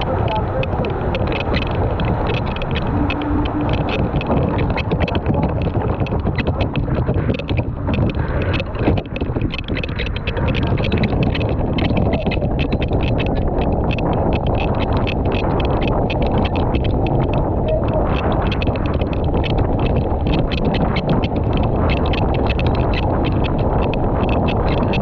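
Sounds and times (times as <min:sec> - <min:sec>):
water rushing along hull: 0:00.0 - 0:25.0
wind buffeting microphone: 0:00.0 - 0:25.0.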